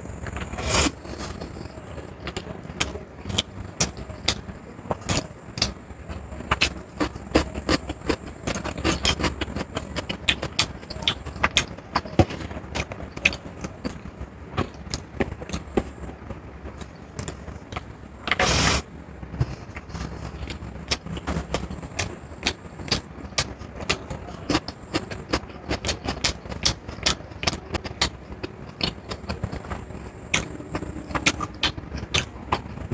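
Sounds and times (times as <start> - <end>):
low background rumble: 0.0 - 32.9
person chewing food: 0.2 - 14.0, 19.4 - 32.8.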